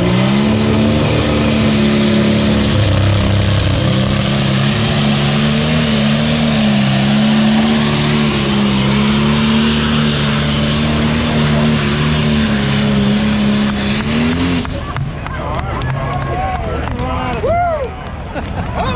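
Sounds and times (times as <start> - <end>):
diesel engine at full throttle: 0.0 - 18.9.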